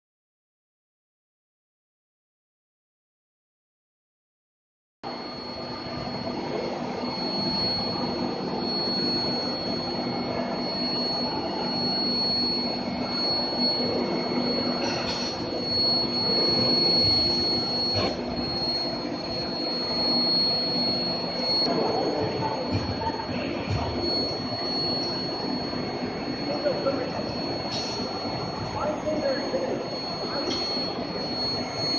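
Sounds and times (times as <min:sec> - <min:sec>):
high-pitched furnace whine: 0:05.0 - 0:31.9
low machine hum: 0:05.0 - 0:31.9.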